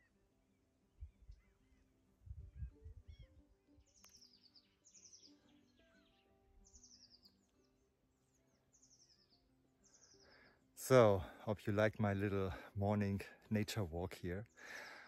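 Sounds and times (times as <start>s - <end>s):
faint songbird trill: 0.0s - 12.6s.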